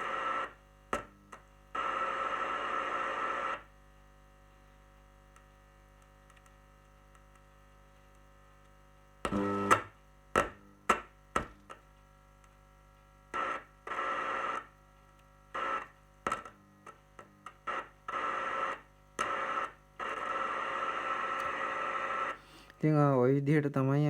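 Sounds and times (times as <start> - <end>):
speaker static hiss and hum: 0.0 - 24.0.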